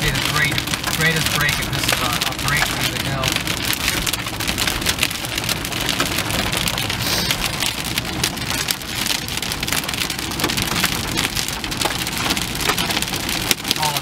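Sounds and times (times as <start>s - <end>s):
car rumbling on road: 0.0s - 14.0s
rain pelting car roof: 0.0s - 14.0s.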